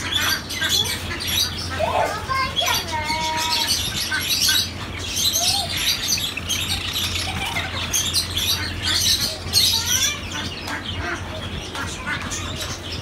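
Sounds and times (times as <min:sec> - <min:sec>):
sparrows chirping: 0:00.0 - 0:13.0
steady low hum: 0:00.0 - 0:13.0.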